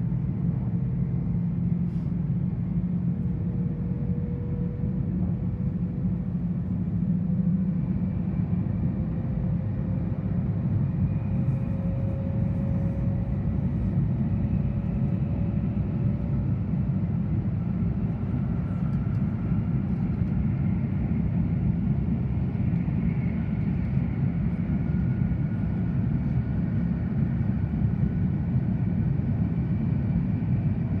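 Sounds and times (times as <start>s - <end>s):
train rumble inside carriage: 0.0s - 31.0s.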